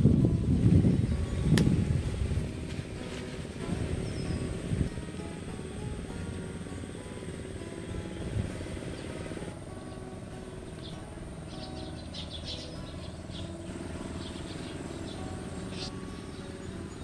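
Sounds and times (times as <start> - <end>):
steady low drone: 0.0 - 17.0
small birds chirping: 3.1 - 17.0.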